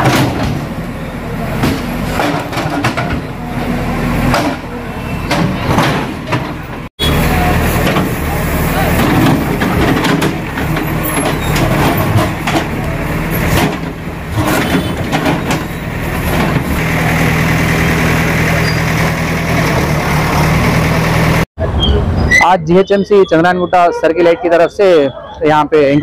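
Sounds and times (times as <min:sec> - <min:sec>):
diesel engine running: 0:00.0 - 0:21.5.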